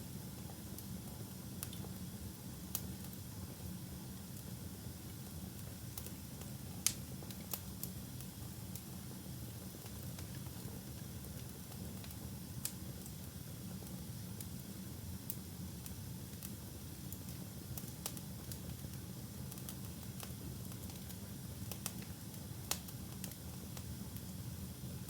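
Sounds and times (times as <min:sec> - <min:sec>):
fire crackles and pops: 0:00.2 - 0:25.0.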